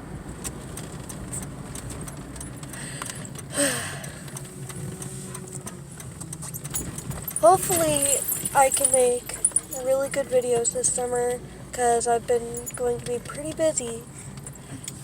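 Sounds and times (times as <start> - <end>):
car engine and road rumble: 0.0 - 15.0
light metallic jingling clicks: 1.3 - 11.2, 12.3 - 15.0.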